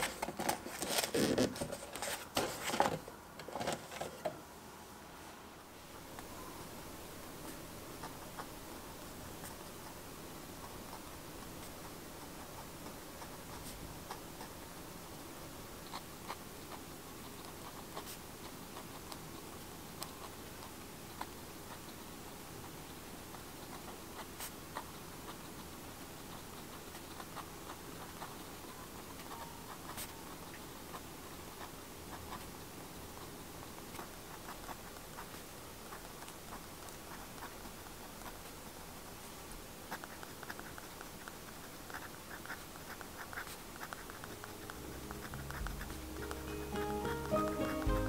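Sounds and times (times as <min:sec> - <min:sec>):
faint steady hiss: 0:00.0 - 0:48.0
pen nib scratching on paper: 0:07.4 - 0:14.8, 0:15.8 - 0:47.9.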